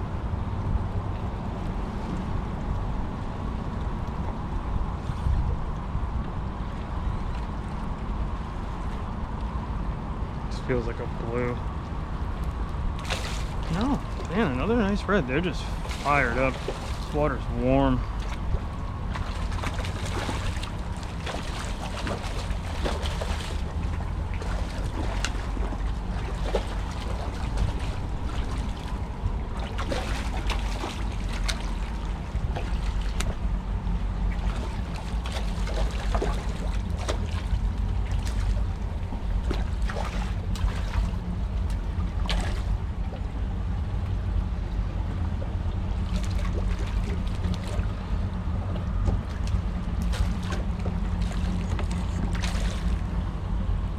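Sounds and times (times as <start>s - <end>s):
water lapping against hull: 0.0s - 53.9s
wind rumbling on microphone: 0.0s - 53.9s.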